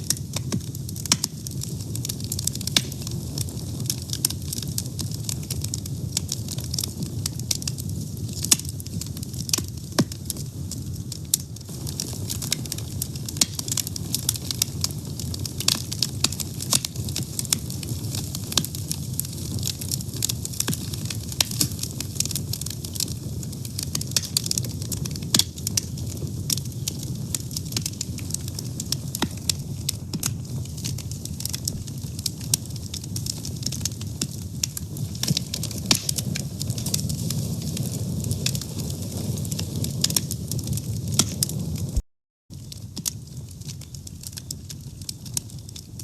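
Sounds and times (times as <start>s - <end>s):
fire crackling and popping: 0.0s - 46.0s
low rumble of flames: 0.0s - 46.0s.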